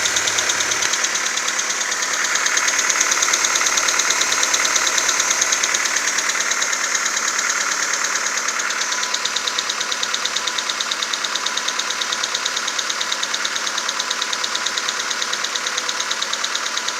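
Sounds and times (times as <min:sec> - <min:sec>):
car engine idling with ticking knock: 0:00.0 - 0:16.9.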